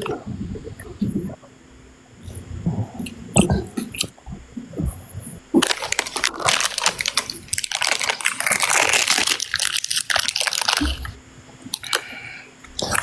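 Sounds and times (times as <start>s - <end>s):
dense crackling and crunching: 2.2s - 13.0s.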